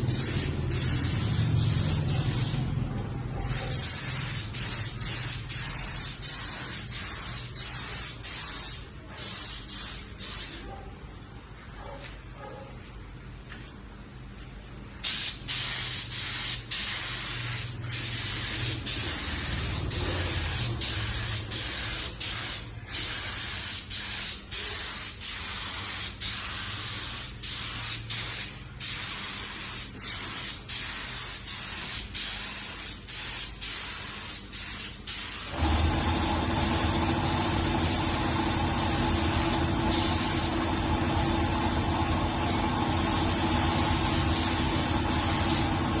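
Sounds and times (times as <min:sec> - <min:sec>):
spray gun hissing: 0:00.0 - 0:02.7, 0:03.6 - 0:10.6, 0:15.0 - 0:40.7, 0:42.8 - 0:46.0.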